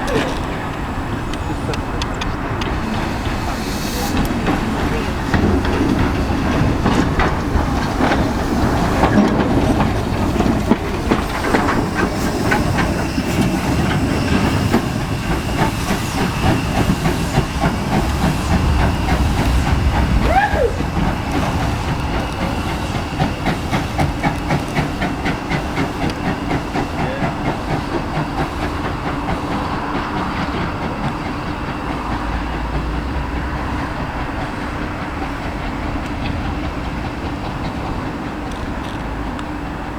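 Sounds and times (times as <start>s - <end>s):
train hiss: 0.0s - 39.9s
train wheels clattering on rails: 0.0s - 39.9s.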